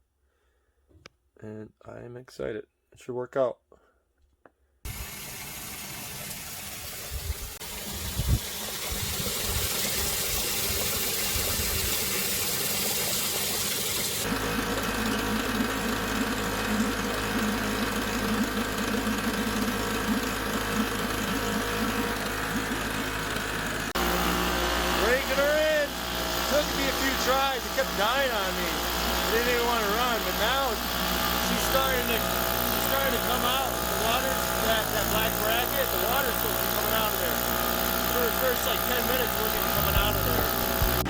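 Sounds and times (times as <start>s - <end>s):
outboard motor running: 6.6s - 41.0s.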